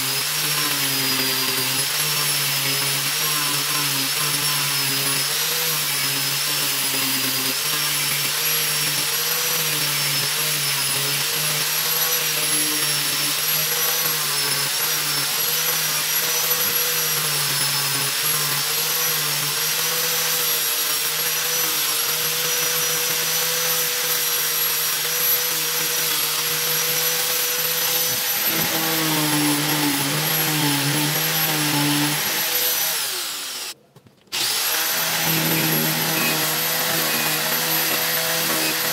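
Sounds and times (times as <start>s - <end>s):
angle grinder whining: 0.0s - 38.9s.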